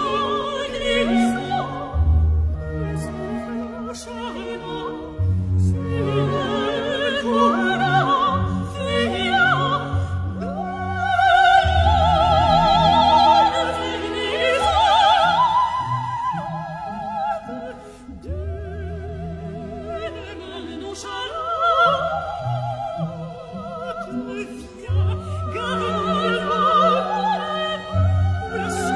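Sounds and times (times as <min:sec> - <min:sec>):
orchestral accompaniment: 0:00.0 - 0:28.9.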